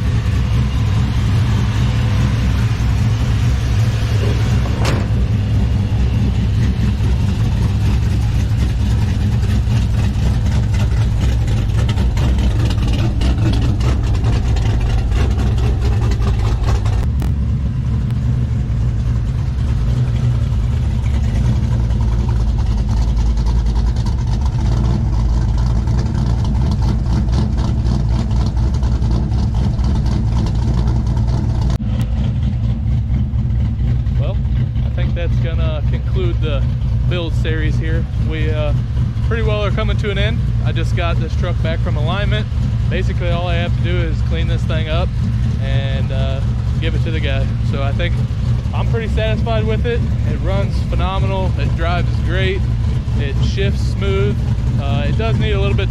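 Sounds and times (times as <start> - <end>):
deep engine exhaust: 0.0 - 55.9.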